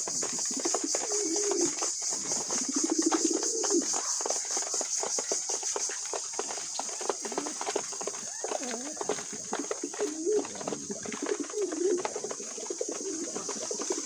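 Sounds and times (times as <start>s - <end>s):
pigeons cooing: 0.0s - 5.5s, 6.2s - 14.0s
pigeon beaks pecking: 0.0s - 14.0s.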